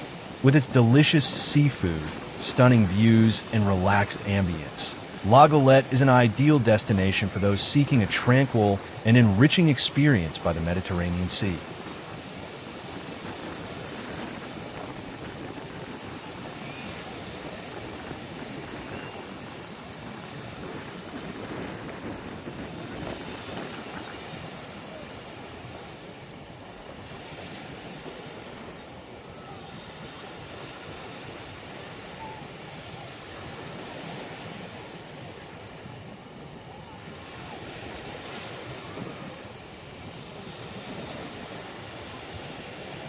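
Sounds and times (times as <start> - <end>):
sea waves washing onto beach: 0.0 - 43.0.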